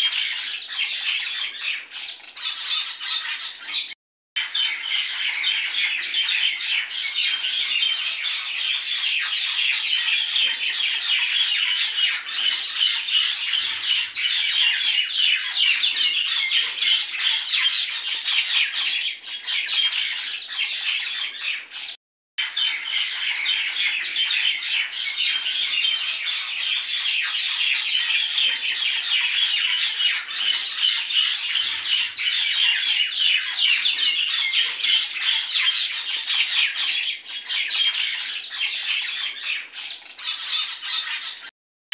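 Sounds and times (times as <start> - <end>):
many birds chirping and squawking: 0.0 - 41.5.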